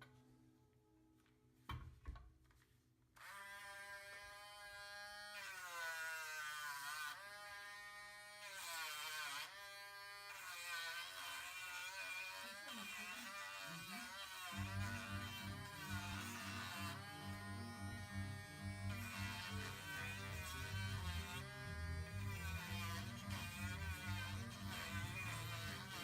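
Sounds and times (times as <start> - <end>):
electric rotary tool buzzing: 3.2 - 26.0.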